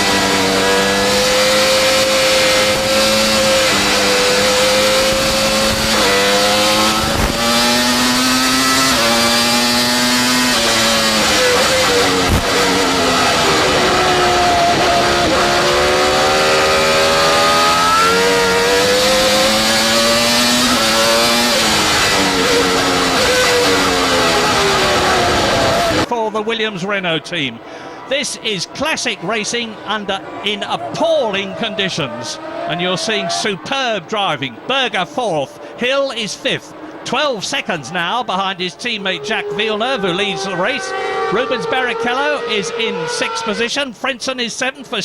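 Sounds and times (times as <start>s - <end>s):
racing car engine revving: 0.0s - 26.1s, 26.9s - 43.8s.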